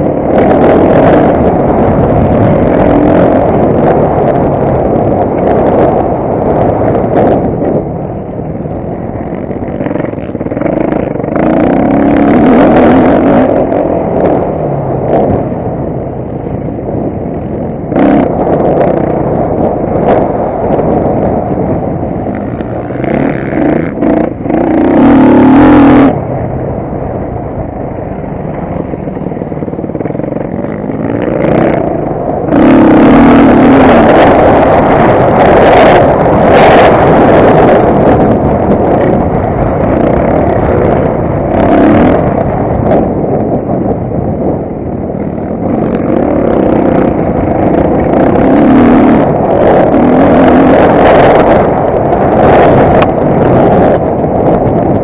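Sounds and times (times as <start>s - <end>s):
motocross bike engine revving: 0.0s - 15.6s, 17.3s - 26.2s, 28.3s - 43.5s, 45.1s - 55.0s.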